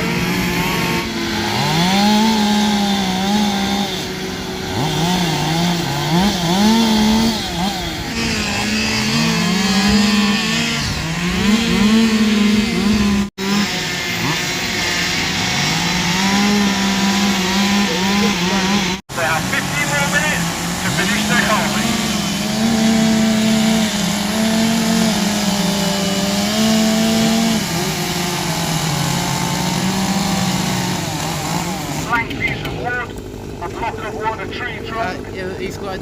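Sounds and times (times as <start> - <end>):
chainsaws revving: 0.0 - 36.0.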